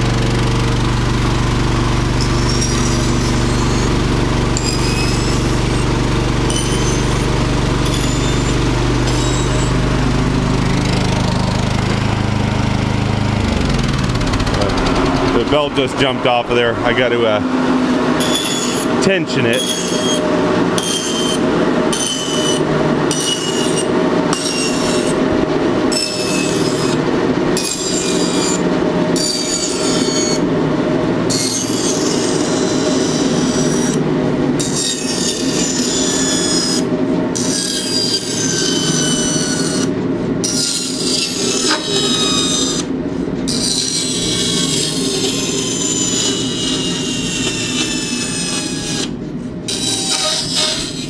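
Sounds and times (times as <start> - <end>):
small gasoline engine running: 0.0 - 49.1
bandsaw blade squealing: 1.8 - 12.0, 17.8 - 30.5, 31.3 - 34.0, 34.6 - 42.9, 43.5 - 51.0.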